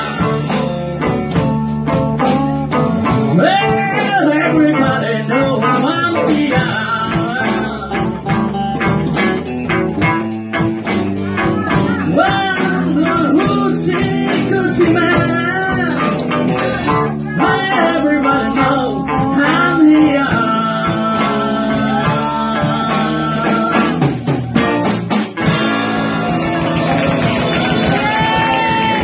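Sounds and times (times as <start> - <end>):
live blues band playing: 0.0 - 29.0
person singing: 3.2 - 9.1, 10.2 - 24.8, 25.4 - 29.0.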